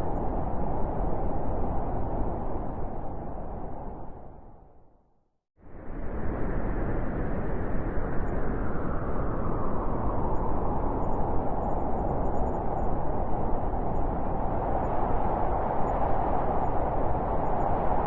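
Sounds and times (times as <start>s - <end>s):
blizzard wind rushing: 0.0s - 4.7s, 5.7s - 18.0s
howling wind: 0.0s - 5.0s, 5.6s - 18.0s.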